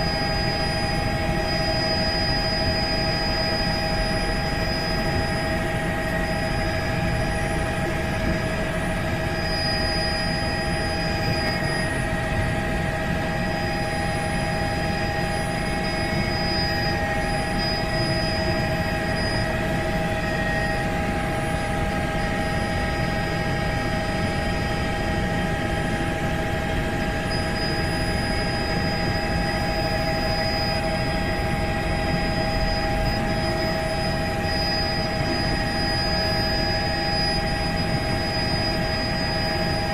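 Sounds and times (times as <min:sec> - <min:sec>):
helicopter rotor and engine rumble: 0:00.0 - 0:39.9
high turbine whine: 0:00.0 - 0:39.9.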